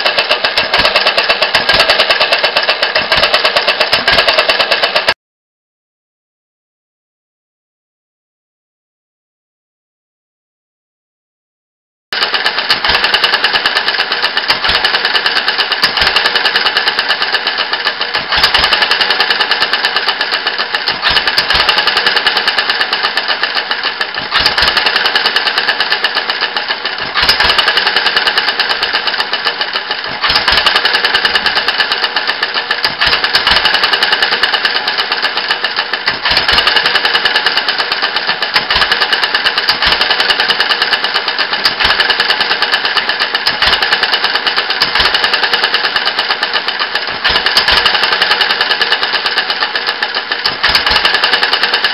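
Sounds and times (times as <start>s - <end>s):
petrol engine clattering: 0.0s - 5.2s, 12.2s - 51.9s.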